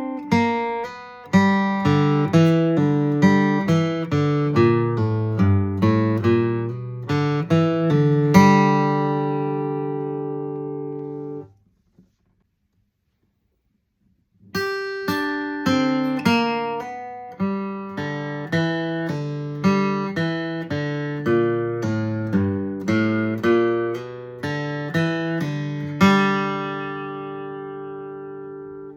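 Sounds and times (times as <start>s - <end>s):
acoustic guitar: 0.0s - 12.5s, 14.3s - 28.9s.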